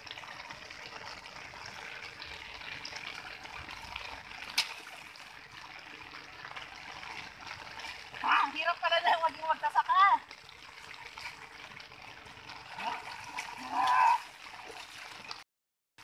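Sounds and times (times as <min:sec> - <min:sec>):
water trickling and splashing: 0:00.0 - 0:15.4.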